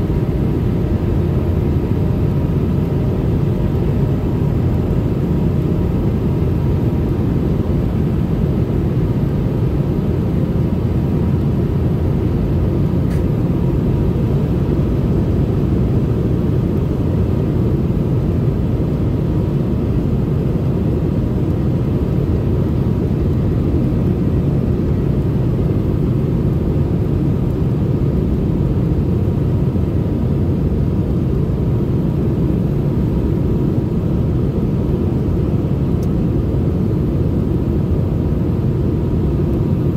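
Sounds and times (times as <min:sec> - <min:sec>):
airplane cabin engine rumble: 0:00.0 - 0:39.9
faint steady hum: 0:00.0 - 0:39.9.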